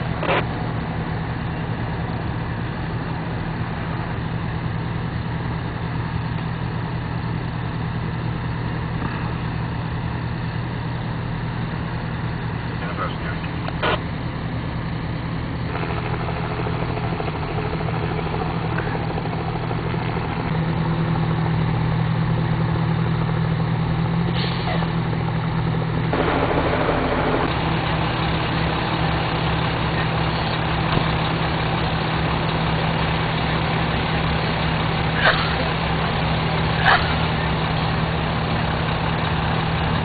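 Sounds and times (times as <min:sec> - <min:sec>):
traffic noise: 0:00.0 - 0:40.0
truck engine idling: 0:00.0 - 0:40.0.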